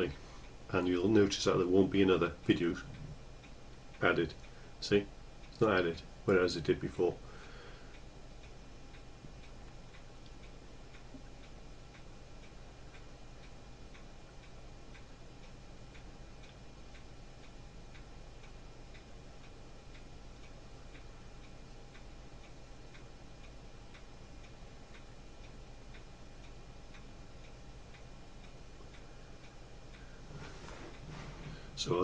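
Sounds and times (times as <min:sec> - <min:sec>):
faint low hum: 0:00.0 - 0:32.0
steady ticking: 0:00.0 - 0:32.0.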